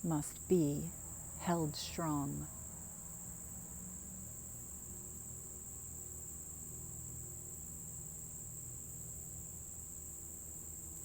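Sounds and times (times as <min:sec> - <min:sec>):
crickets chirping: 0:00.0 - 0:11.0
faint low hum: 0:00.0 - 0:11.0.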